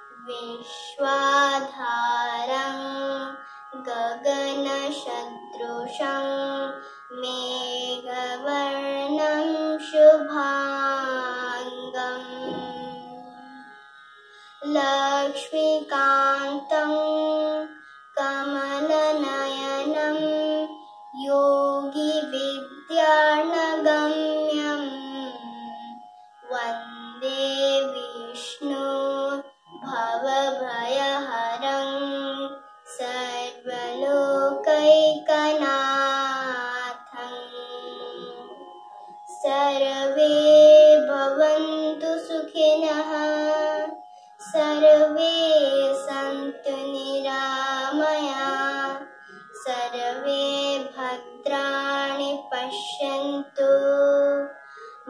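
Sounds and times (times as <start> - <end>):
girl chanting a melody: 0.0 - 13.7, 14.6 - 54.6.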